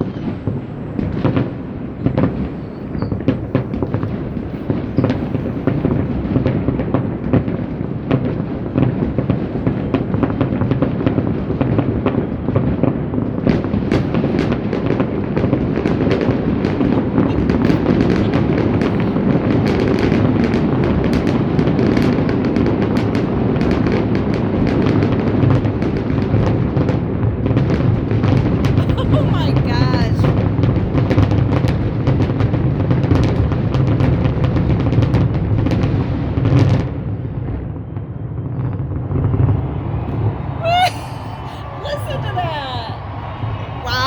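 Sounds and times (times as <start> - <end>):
firework booms and crackles: 0.0 - 40.6.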